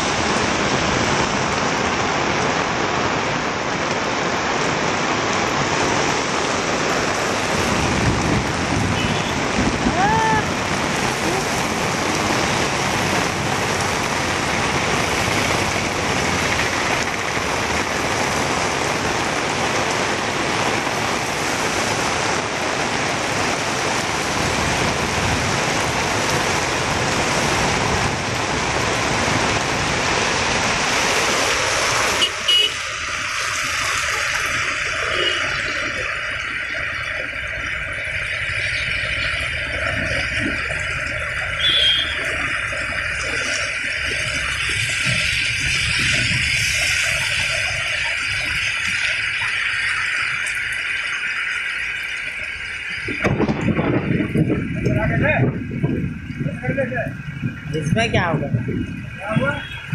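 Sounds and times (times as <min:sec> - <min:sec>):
heavy rain pouring onto road: 0:00.0 - 0:59.9.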